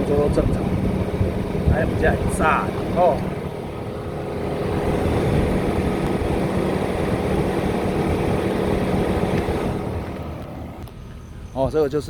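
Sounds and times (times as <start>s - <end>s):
cooling fan whir: 0.0s - 12.0s
engine low hum: 0.0s - 12.0s.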